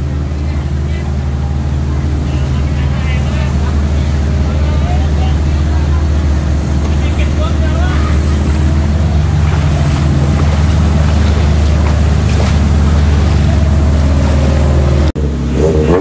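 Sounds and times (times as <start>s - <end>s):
water sloshing and splashing: 0.0s - 15.2s
off-road vehicle engine running: 0.0s - 16.0s.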